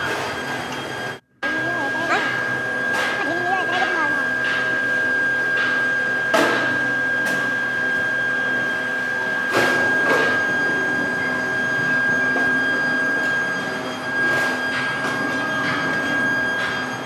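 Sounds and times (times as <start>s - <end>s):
machinery high whine: 0.0s - 17.0s.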